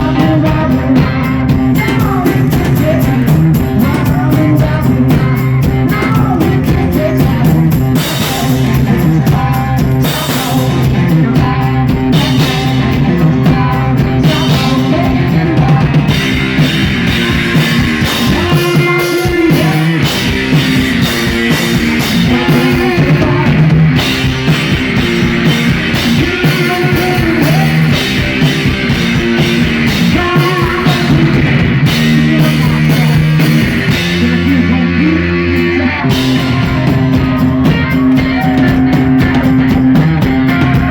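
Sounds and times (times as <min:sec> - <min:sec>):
drum kit playing: 0:00.0 - 0:40.9
electric guitar: 0:00.0 - 0:40.9
lead singing: 0:00.0 - 0:40.9.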